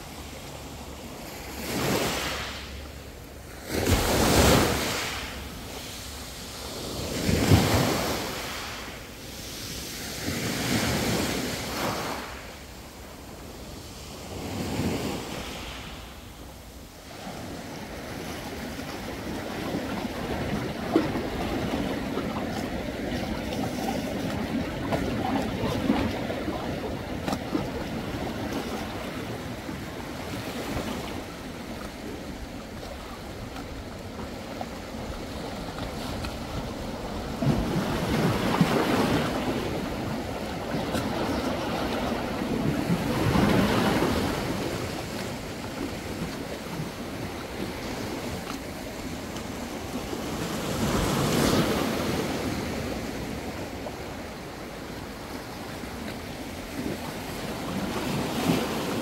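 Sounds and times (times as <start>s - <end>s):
large waves breaking: 0.0s - 59.0s
sea waves washing onto shore: 0.0s - 59.0s.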